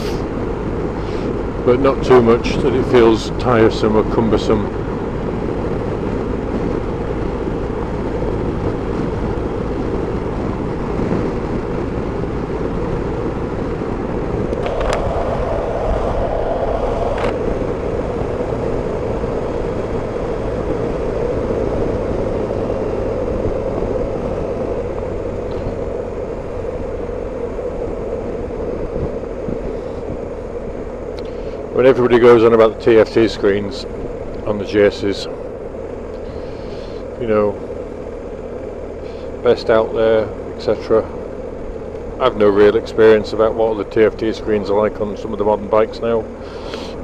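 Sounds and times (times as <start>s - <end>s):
motorcycle engine drone: 0.0s - 47.0s
wind noise: 0.0s - 47.0s.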